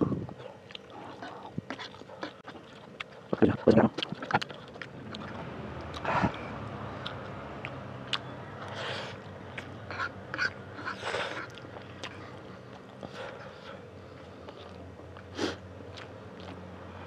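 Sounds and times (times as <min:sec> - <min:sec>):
low steady hum: 0:00.0 - 0:17.0
chewing and mouth sounds: 0:00.1 - 0:16.7.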